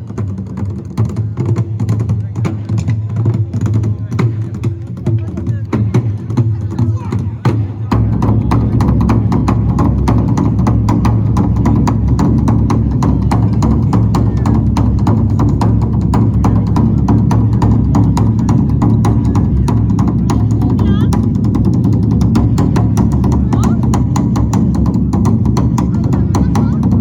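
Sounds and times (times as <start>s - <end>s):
drums playing a fast beat: 0.0s - 27.0s.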